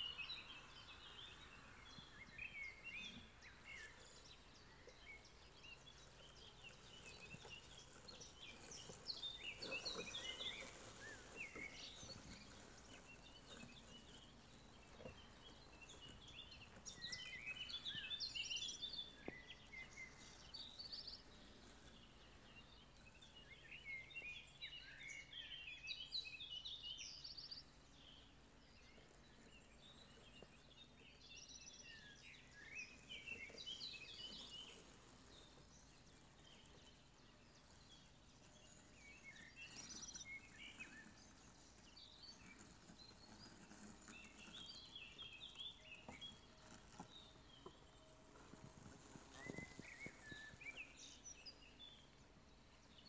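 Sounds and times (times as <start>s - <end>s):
faint birds chirping: 0.0s - 53.0s.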